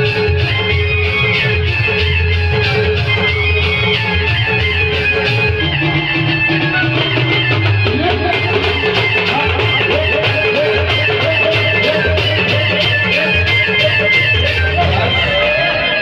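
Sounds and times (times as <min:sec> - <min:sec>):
loud band music through speakers: 0:00.0 - 0:16.0.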